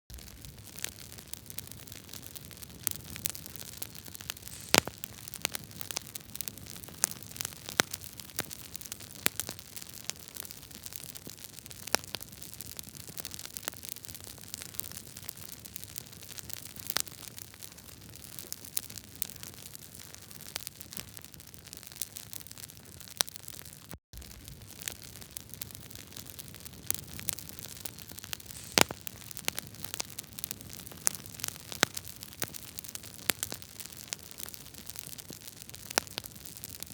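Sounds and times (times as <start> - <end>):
wood fire crackling and popping: 0.1 - 36.9.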